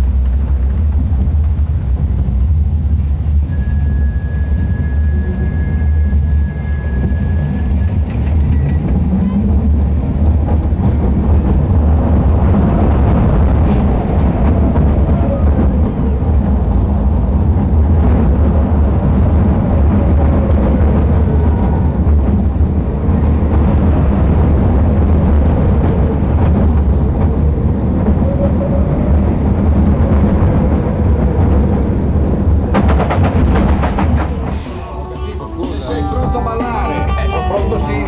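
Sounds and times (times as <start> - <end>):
roller coaster rumbling on track: 0.0 - 38.0.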